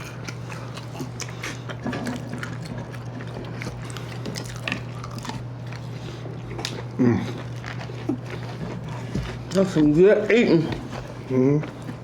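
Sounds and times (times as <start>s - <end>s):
wet chewing and mouth smacks: 0.0s - 10.0s
steady low hum: 0.0s - 12.0s.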